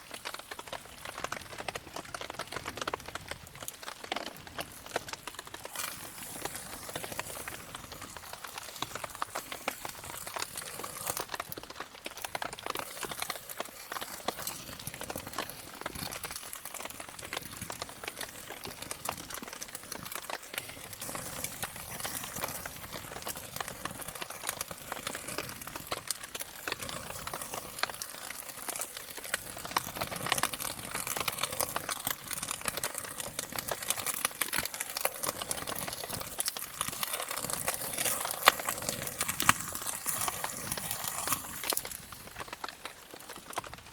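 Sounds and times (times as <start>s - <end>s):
campfire crackling: 0.0s - 43.9s
raindrops pattering: 0.0s - 43.9s.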